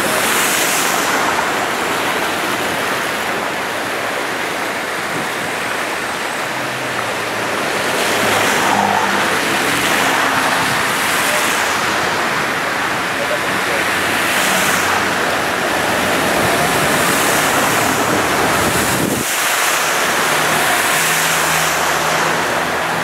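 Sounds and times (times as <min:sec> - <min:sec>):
car driving through water: 0:00.0 - 0:23.0
rainwater rushing along street: 0:00.0 - 0:23.0.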